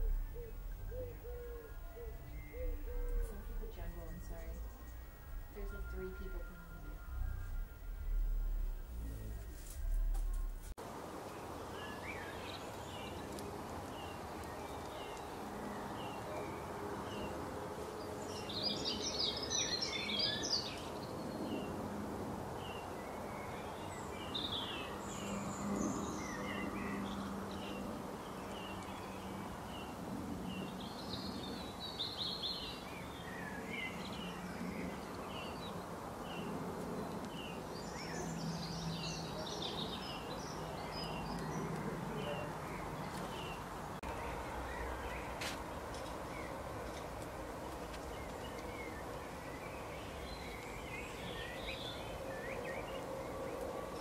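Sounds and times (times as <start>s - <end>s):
outdoor background noise: 0.0s - 54.0s
wild birds chirping and singing: 0.0s - 54.0s.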